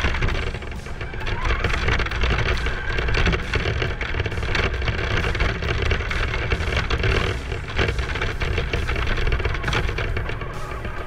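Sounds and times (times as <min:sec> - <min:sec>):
chassis knocking and rattling: 0:00.0 - 0:11.0
toy car motor running: 0:00.0 - 0:11.0.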